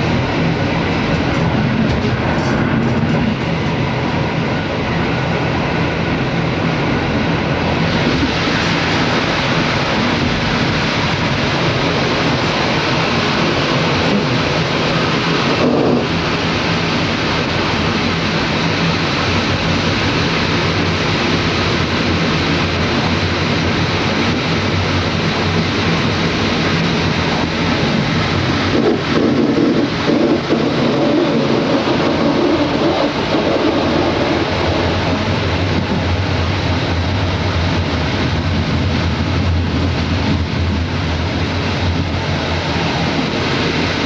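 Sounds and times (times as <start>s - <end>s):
rushing noise: 0.0s - 44.0s
train wheels rumbling on rails: 0.0s - 44.0s.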